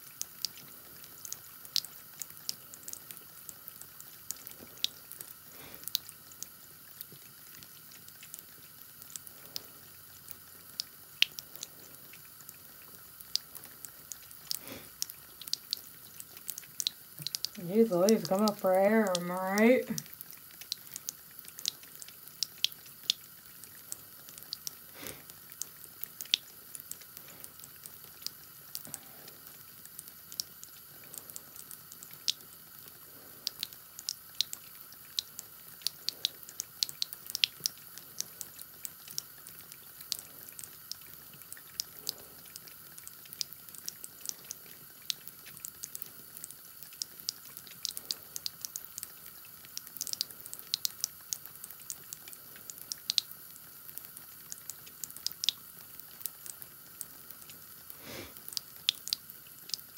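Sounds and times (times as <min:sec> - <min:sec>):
cat lapping water: 0:00.0 - 0:59.9.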